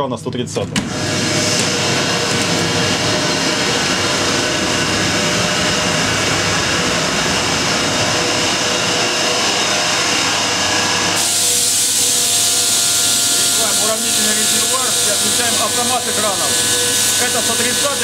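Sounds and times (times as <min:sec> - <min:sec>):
locomotive equipment fan whir: 0:00.9 - 0:18.0
steady tones: 0:01.0 - 0:18.0.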